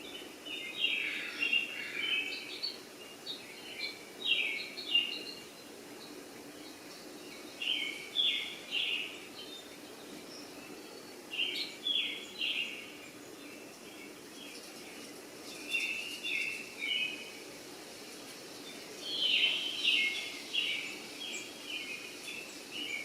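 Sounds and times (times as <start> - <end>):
bird chirping: 0.0 - 17.4, 18.5 - 23.0.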